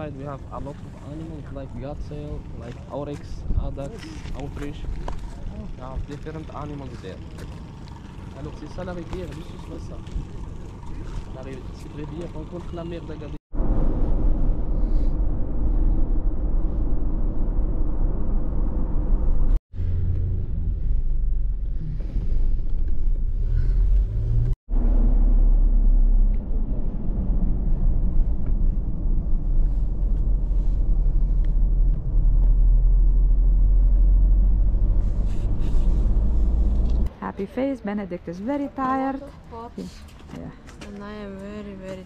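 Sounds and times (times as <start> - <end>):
vehicle driving low rumble: 0.0 - 42.0.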